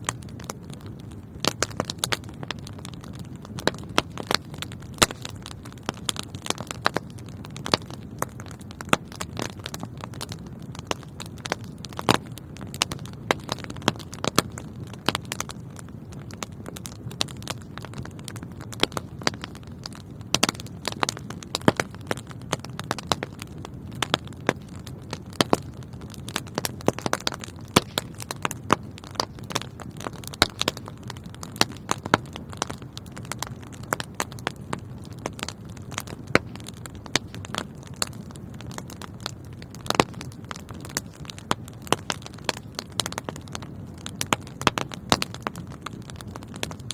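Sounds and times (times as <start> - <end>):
fire crackling and popping: 0.0 - 46.9
fire flames rumbling: 0.0 - 46.9.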